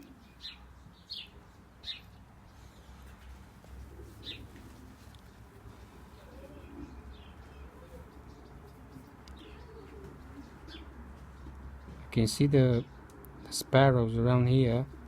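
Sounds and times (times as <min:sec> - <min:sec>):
pigeons cooing: 0:00.0 - 0:15.0
sparrows chirping: 0:00.0 - 0:15.0.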